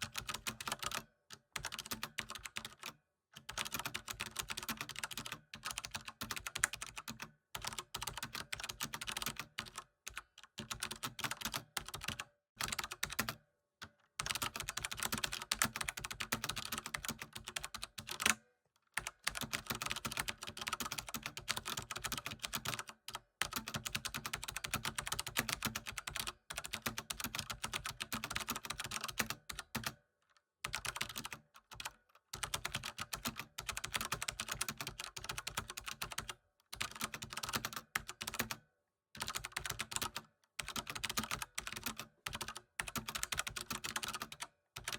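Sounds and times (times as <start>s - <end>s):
typing on computer keyboard: 0.0s - 18.4s, 19.0s - 30.0s, 30.6s - 38.6s, 39.2s - 44.9s.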